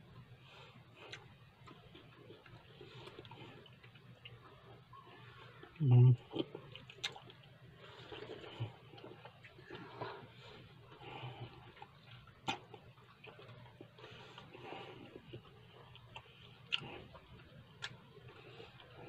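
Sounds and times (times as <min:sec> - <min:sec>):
closed-mouth chewing: 0:00.8 - 0:19.0.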